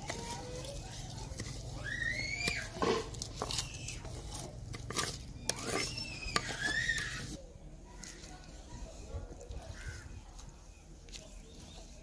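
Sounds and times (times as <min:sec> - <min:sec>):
wooden spoon scraping bowl: 0:00.0 - 0:12.0.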